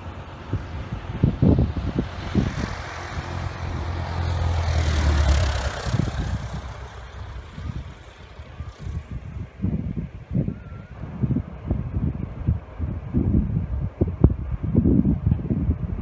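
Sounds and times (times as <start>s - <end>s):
light aircraft engine drone: 0.0s - 16.0s
rushing air: 0.0s - 16.0s.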